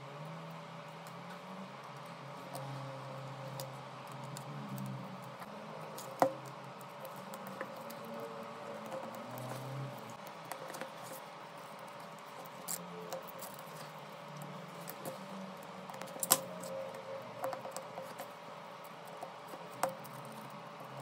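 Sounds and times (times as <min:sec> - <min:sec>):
tools clicking and tapping: 0:00.5 - 0:21.0.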